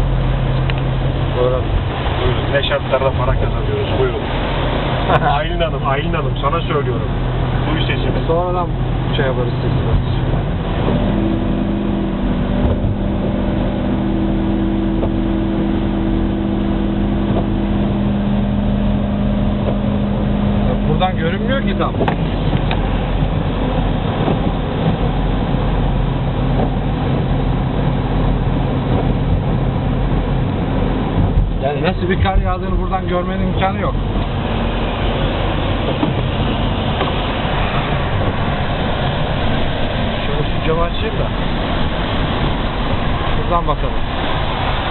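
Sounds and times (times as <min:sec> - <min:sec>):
road noise: 0:00.0 - 0:44.9
truck engine hum: 0:00.0 - 0:44.9.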